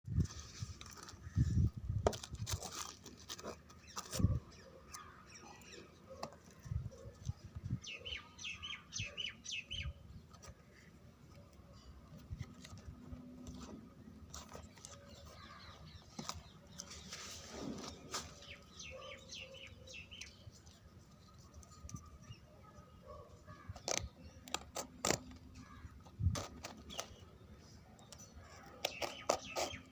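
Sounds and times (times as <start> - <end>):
birds chirping: 3.7 - 12.8, 13.4 - 29.9.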